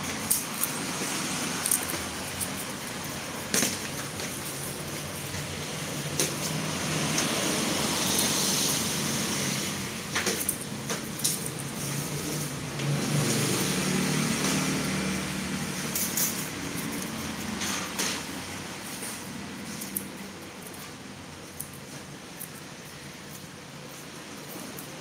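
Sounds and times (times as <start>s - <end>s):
garlic bulbs clicking: 0.0s - 25.0s
traffic noise: 0.0s - 25.0s.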